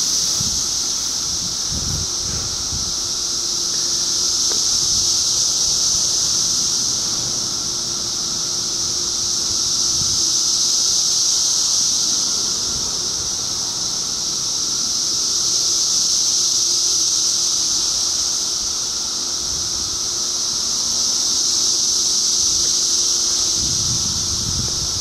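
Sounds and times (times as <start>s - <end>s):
cicadas buzzing: 0.0s - 25.0s.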